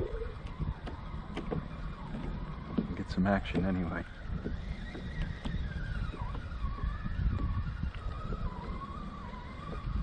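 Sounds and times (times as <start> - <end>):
electric motor whining: 0.0 - 10.0
wind buffeting microphone: 0.0 - 10.0.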